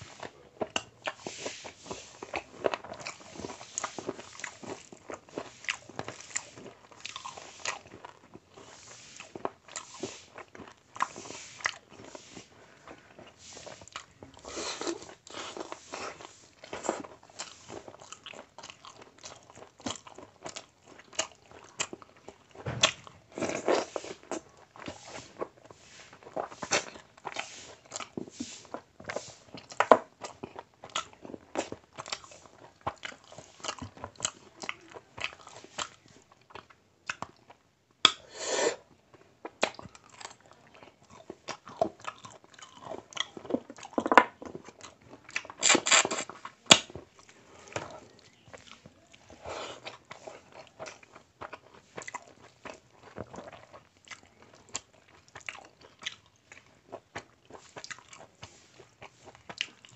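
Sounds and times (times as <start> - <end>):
wet chewing mouth sounds: 0.0 - 59.9.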